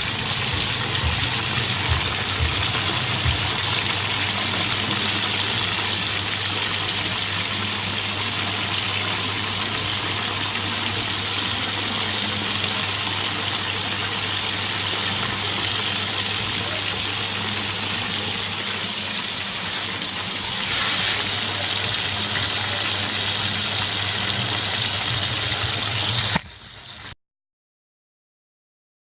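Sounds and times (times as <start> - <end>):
sizzling of deep-frying oil: 0.0 - 27.2.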